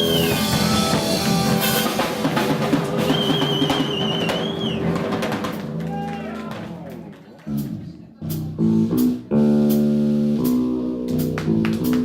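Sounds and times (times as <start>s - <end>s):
drum kit and cymbals: 0.0s - 6.5s, 7.5s - 12.0s
live blues-rock band: 0.0s - 12.0s.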